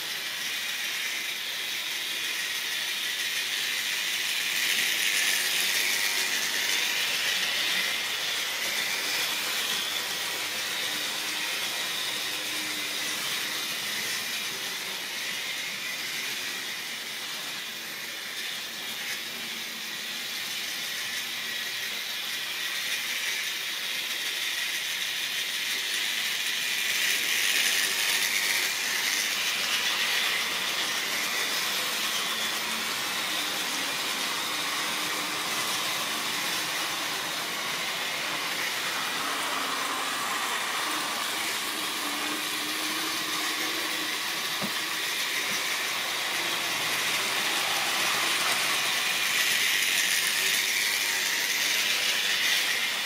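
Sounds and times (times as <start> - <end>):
model train running on track: 0.0 - 53.0.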